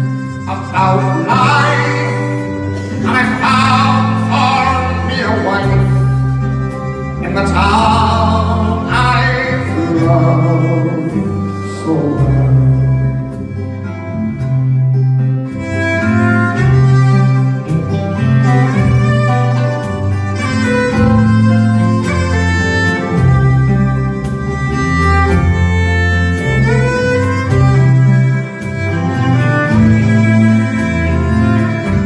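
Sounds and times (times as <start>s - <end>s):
acoustic guitar: 0.0s - 32.0s
deep sustained bass notes: 0.0s - 32.0s
folk band playing: 0.0s - 32.0s.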